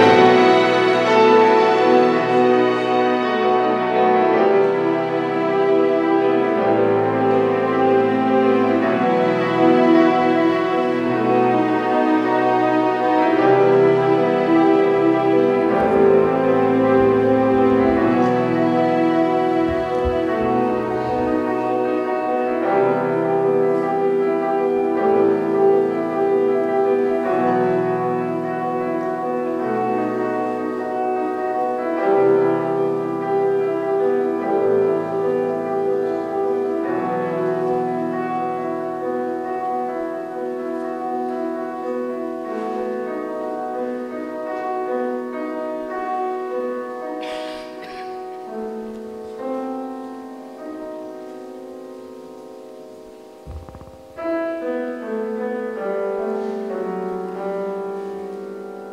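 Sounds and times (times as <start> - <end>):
slow piano music: 0.0 - 58.9.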